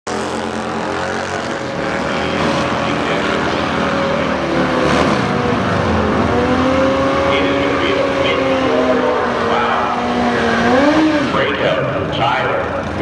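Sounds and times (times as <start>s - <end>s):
motorcycle engine revving: 0.1s - 13.0s
motorcycle engines: 0.1s - 13.0s.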